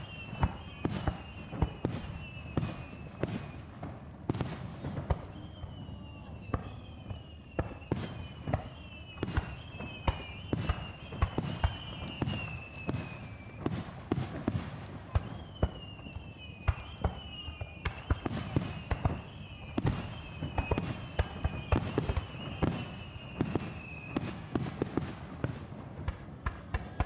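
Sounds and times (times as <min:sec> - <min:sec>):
fireworks bursting with bangs: 0:00.0 - 0:27.0.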